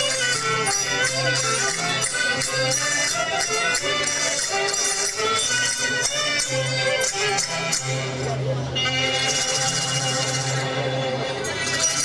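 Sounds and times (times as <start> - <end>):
accordion chords: 0.0 - 12.0.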